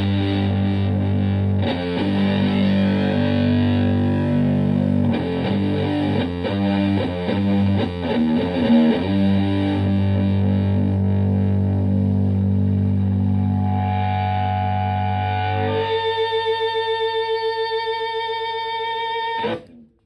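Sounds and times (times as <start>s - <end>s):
distorted electric guitar: 0.0s - 19.9s.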